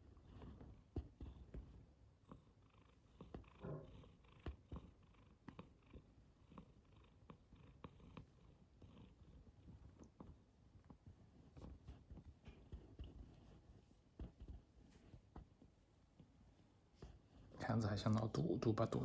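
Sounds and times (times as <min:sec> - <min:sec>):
cat purring softly: 0:00.0 - 0:19.0.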